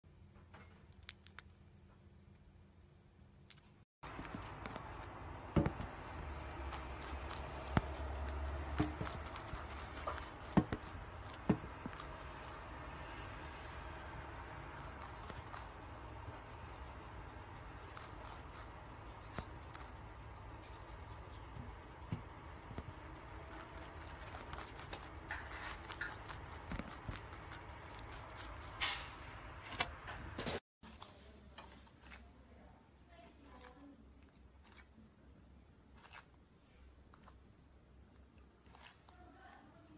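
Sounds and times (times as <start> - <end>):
rabbit chewing crunchy stem: 3.4 - 39.6.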